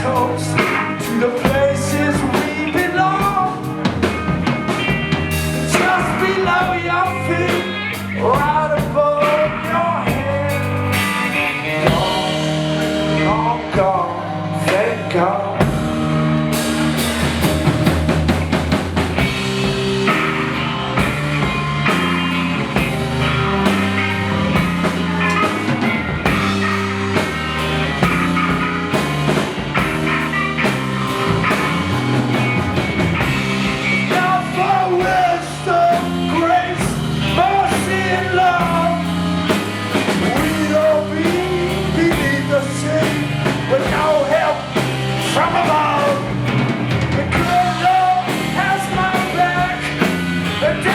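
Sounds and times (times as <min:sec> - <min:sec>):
instrumental rock music: 0:00.0 - 0:50.9
wavering lead guitar line: 0:00.0 - 0:50.9.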